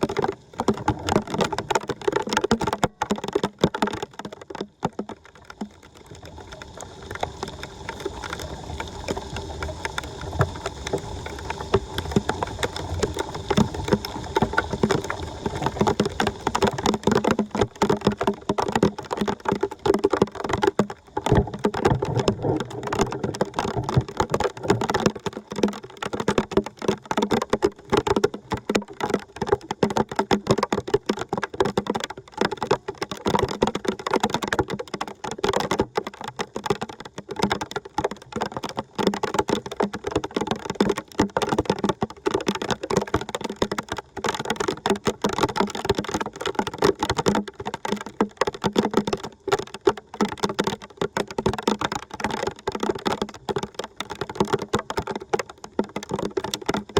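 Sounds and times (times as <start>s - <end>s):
water splashing and trickling: 0.0s - 56.9s.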